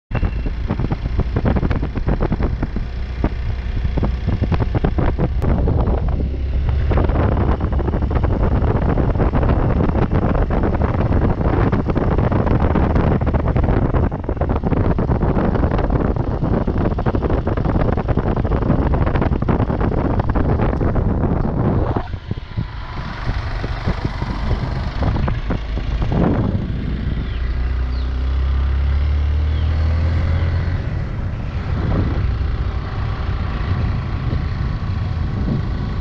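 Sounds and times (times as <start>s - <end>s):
motorcycle engine rumble: 0.1s - 36.0s
wind buffeting microphone: 0.1s - 36.0s.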